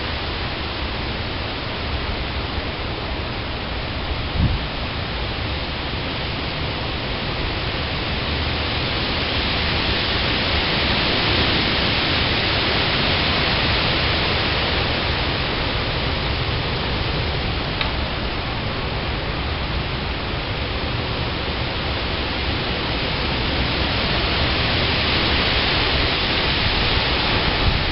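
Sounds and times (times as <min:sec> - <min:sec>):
heavy rain: 0:00.0 - 0:27.9
wind: 0:00.0 - 0:27.9.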